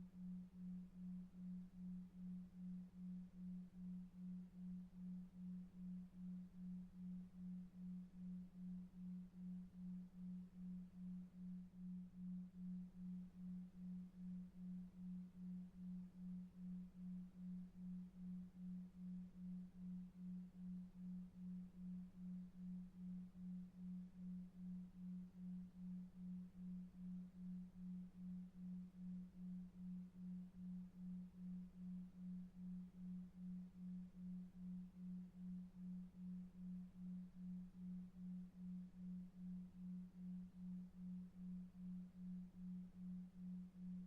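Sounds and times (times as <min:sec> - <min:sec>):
low pulsing pure tone: 0:00.0 - 0:44.0.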